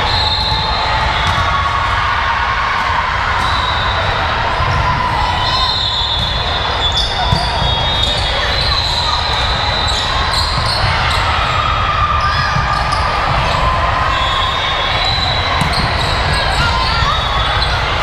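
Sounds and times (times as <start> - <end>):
faint voices: 0.0 - 18.0.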